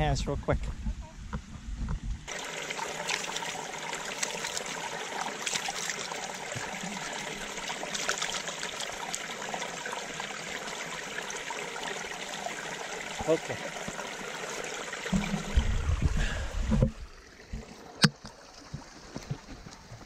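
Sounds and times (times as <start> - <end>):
creek trickling over rocks: 2.2 - 20.0.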